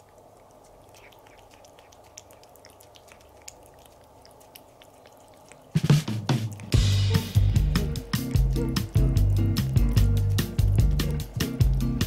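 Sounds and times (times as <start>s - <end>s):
kitten licking and chewing: 0.0s - 12.0s.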